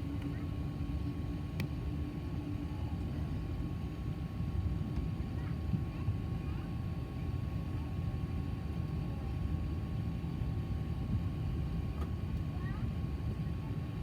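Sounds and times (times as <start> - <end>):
aircraft cabin rumble: 0.0 - 14.0.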